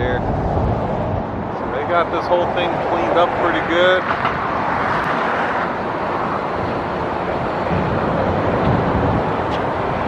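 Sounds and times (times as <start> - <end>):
road traffic: 0.0 - 10.0
wind rumbling on microphone: 0.0 - 10.0.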